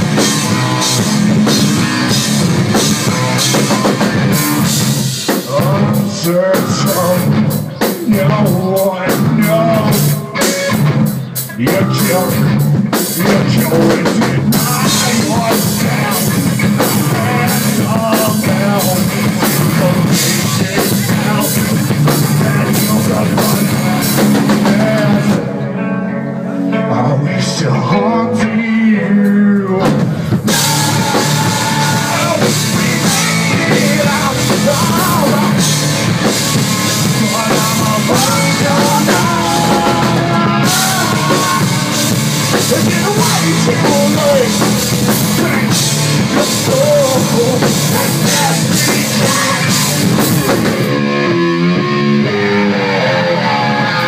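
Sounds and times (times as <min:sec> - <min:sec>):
drum kit: 0:00.0 - 0:25.6, 0:28.8 - 0:54.0
bass guitar: 0:00.0 - 0:54.0
distorted electric guitar: 0:00.0 - 0:54.0.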